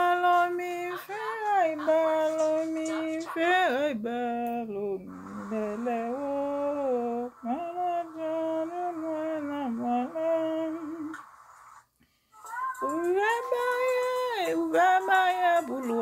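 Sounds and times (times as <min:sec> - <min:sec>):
person singing wordless melody: 0:00.0 - 0:11.2, 0:12.3 - 0:16.0.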